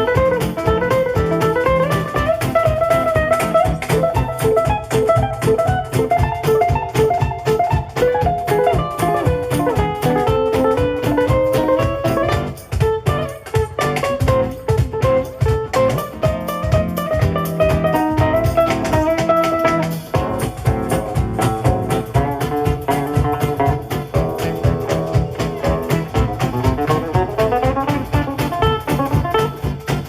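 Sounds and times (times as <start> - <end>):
jazz band playing fast tune: 0.0 - 30.0.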